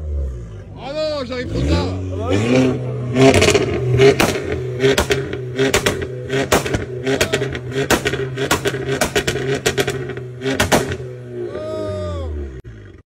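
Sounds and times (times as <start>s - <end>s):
car engine at steady revs: 0.0s - 13.0s
exhaust bangs and crackles: 0.2s - 11.4s.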